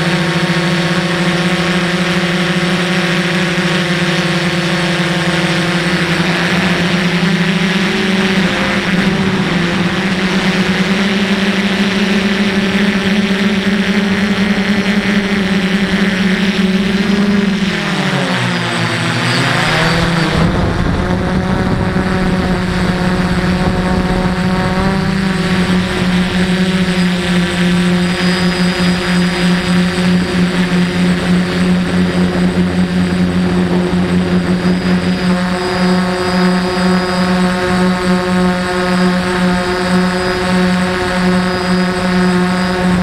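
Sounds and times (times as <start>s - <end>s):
drone motors and propellers whining: 0.0s - 43.0s.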